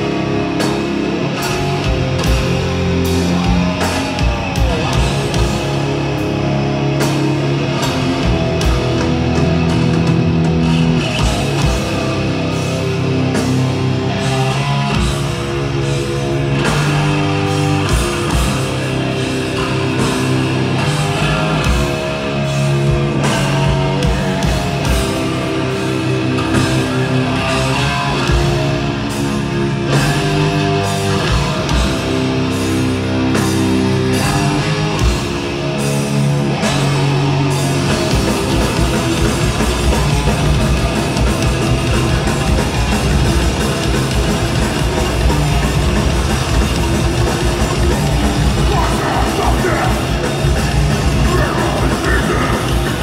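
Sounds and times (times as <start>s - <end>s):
bass guitar: 0.0s - 53.0s
distorted electric guitars: 0.0s - 53.0s
drum kit: 0.0s - 53.0s.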